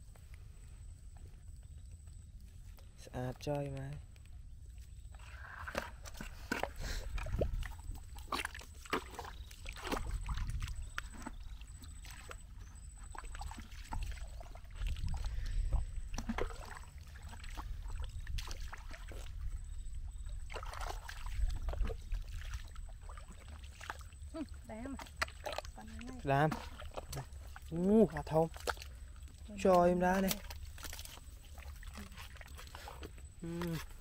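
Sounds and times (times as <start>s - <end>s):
bare feet squelching in mud: 3.7s - 34.0s.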